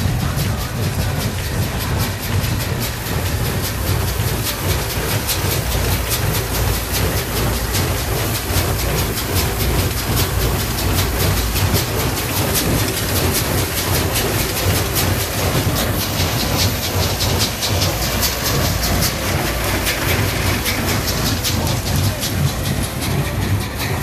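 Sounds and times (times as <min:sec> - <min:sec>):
baler mechanical clatter: 0:00.0 - 0:24.0
tractor engine drone: 0:00.0 - 0:24.0.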